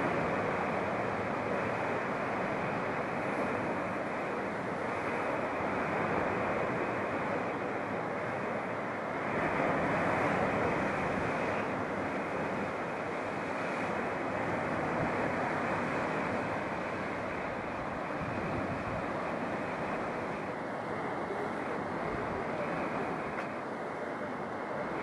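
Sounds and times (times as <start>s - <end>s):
sea surf breaking on rocks: 0.0s - 25.0s.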